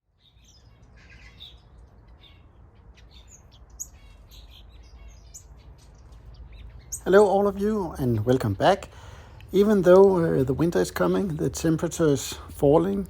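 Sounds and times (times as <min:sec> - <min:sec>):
aviary birds chirping: 0:00.0 - 0:13.0.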